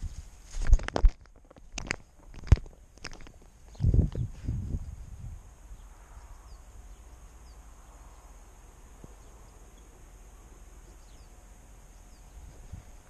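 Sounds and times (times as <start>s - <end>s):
low hiss: 2.0s - 13.0s.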